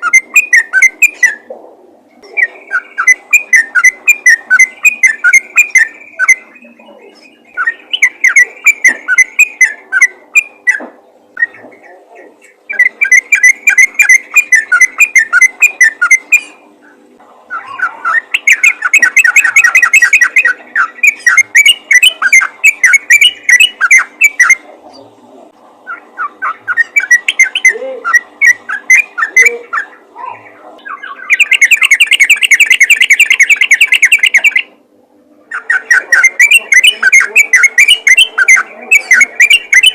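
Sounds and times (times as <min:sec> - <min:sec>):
bulbul chattering song: 0:00.0 - 0:01.5, 0:02.2 - 0:25.1, 0:25.8 - 0:34.8, 0:35.5 - 0:39.9.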